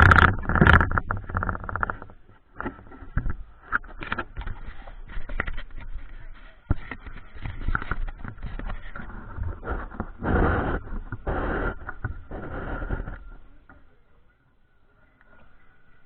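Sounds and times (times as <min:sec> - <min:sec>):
wind rush over microphone: 0:00.0 - 0:13.6.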